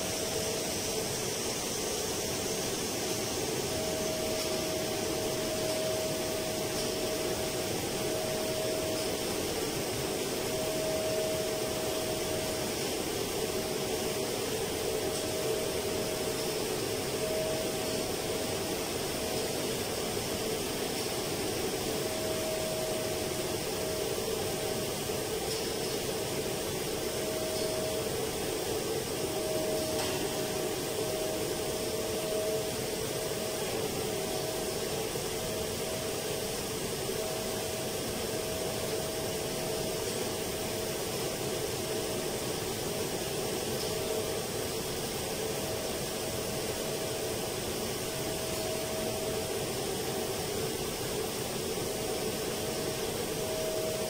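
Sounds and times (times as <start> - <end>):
fans and motors running: 0.0 - 54.0
humming tone: 0.0 - 54.0.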